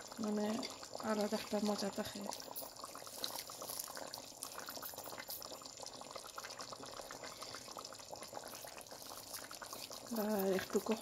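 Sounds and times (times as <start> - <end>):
curry simmering with bubbling pops: 0.0 - 11.0.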